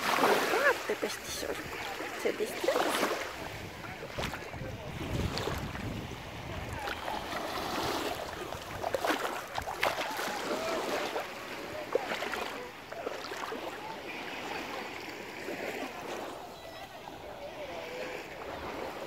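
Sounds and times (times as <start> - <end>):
waves lapping on pebbles: 0.0 - 17.2.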